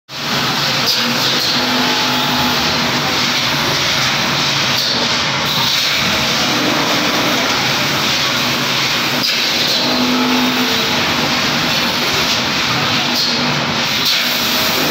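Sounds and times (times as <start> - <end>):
faint machinery hum: 0.1 - 14.9.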